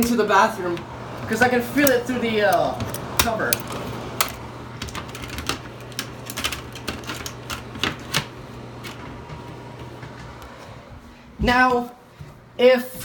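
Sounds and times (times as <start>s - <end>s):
exhaust fan humming: 0.0s - 13.0s.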